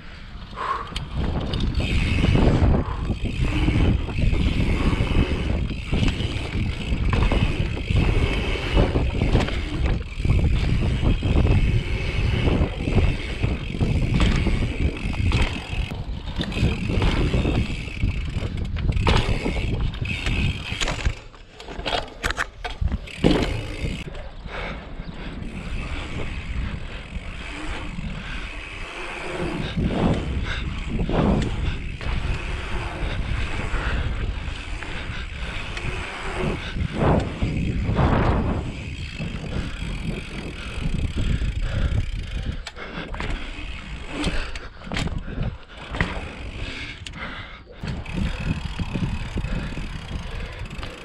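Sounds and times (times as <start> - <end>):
mountain bike rumbling over rough ground: 1.0 - 51.0.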